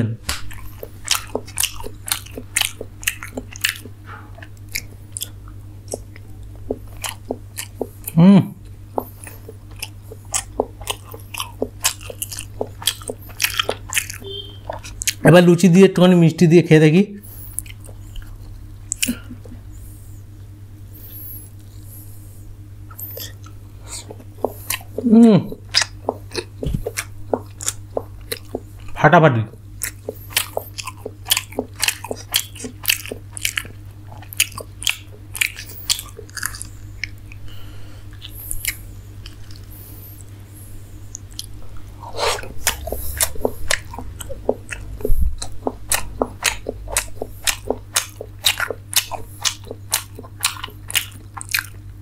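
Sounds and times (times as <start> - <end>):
mouth and hand noises: 0.0 - 52.0
steady low hum: 0.0 - 52.0
person chewing and lip smacking: 0.2 - 15.6, 17.2 - 52.0.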